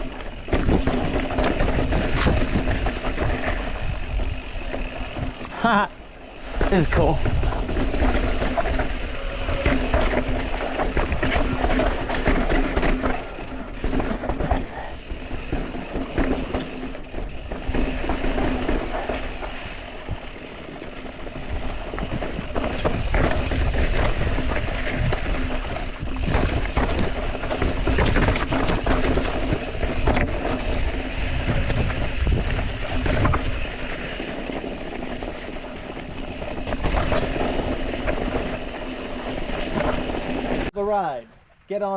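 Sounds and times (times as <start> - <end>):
bike rattling over rocky trail: 0.0 - 40.7
wind rumbling on microphone: 0.0 - 40.7.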